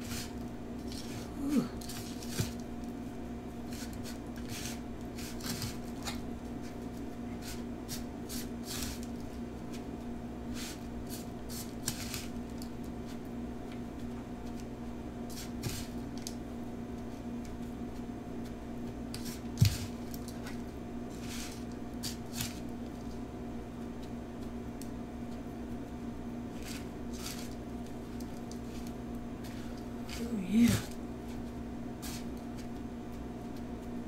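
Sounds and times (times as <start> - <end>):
crunchy rustles of crumbs: 0.0 - 34.0
steady low hum: 0.0 - 34.0.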